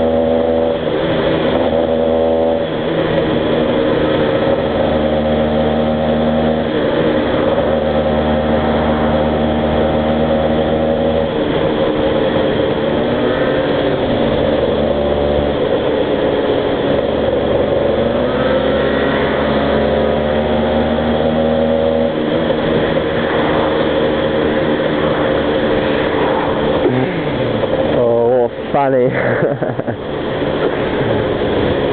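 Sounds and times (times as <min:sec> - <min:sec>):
two-stroke engines revving: 0:00.0 - 0:31.9.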